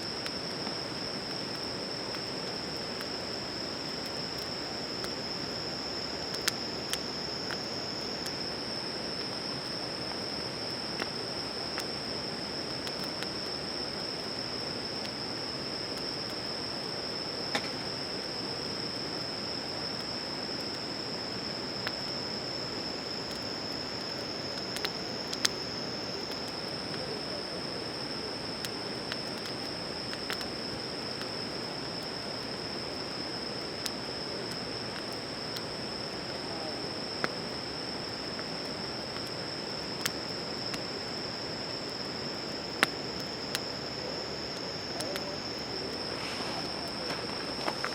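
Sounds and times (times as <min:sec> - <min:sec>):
insects trilling: 0:00.0 - 0:47.9
low hiss: 0:00.0 - 0:47.9
campfire crackling and popping: 0:00.1 - 0:47.9.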